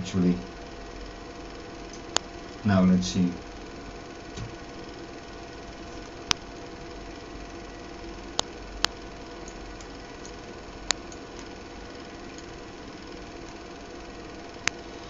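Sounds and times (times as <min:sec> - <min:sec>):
mechanical hum with faint tones: 0:00.0 - 0:15.0.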